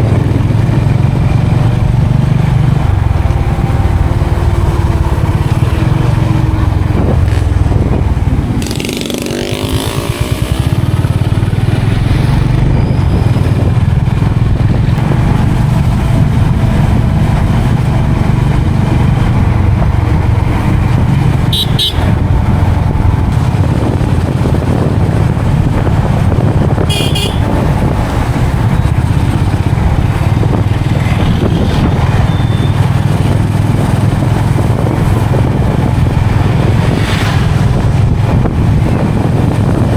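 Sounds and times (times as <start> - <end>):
motorcycle engine and road rumble: 0.0 - 39.9.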